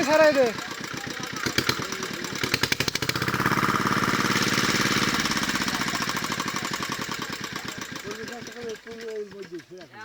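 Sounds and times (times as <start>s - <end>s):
small engine knocking: 0.0s - 10.0s.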